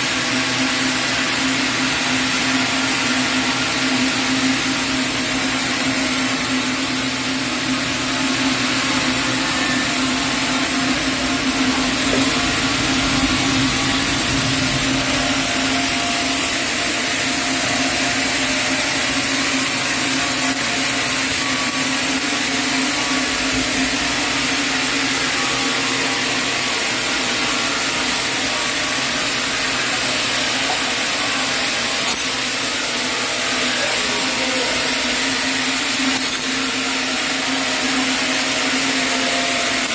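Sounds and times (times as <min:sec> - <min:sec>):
saw cutting through log: 0:00.0 - 0:39.9
sawmill machine hum: 0:00.0 - 0:39.9.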